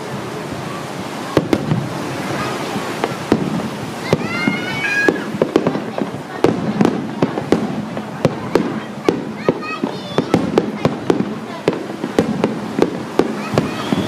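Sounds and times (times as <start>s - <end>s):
background rumble: 0.0s - 14.0s
fireworks bangs and pops: 0.0s - 14.0s.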